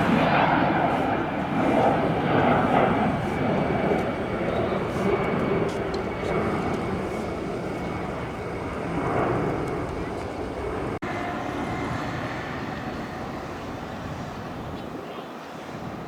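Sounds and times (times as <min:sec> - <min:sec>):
jet engine rushing with whine: 0:00.0 - 0:16.0.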